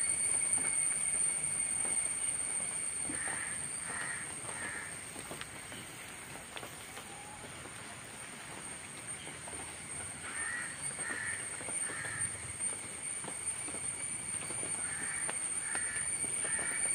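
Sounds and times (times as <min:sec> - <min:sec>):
high-pitched whine: 0:00.0 - 0:16.9.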